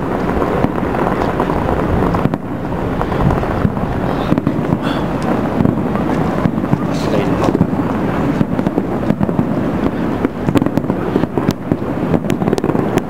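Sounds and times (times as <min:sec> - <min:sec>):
fireworks popping and crackling: 0:00.0 - 0:13.0
sharp firework cracks: 0:00.0 - 0:13.0.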